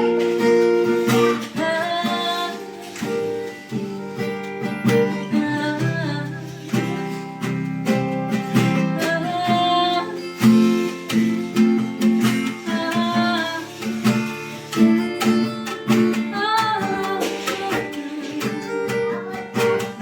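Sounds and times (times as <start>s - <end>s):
djembe hand drum strokes: 0.0s - 5.2s, 6.3s - 7.8s, 8.4s - 20.0s
acoustic guitar strumming: 0.0s - 20.0s.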